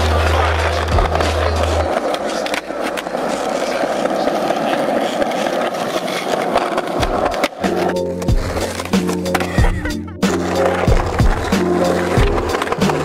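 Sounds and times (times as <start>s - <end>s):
skateboard wheels rolling on stone: 0.0s - 13.0s.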